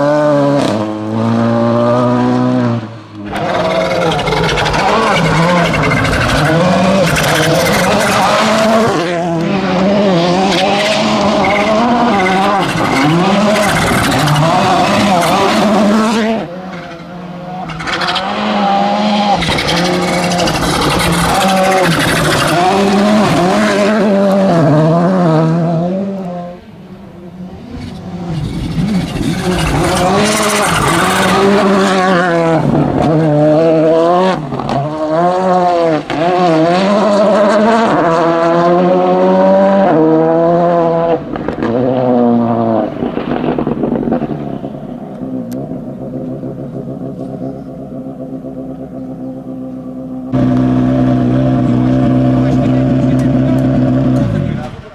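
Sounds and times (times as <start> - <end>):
rally car engine at full throttle: 0.0 - 54.9.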